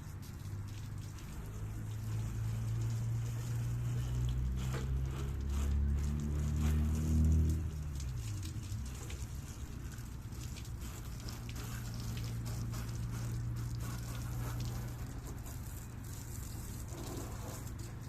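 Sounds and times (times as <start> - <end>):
hose water spattering on hull: 0.0 - 18.0.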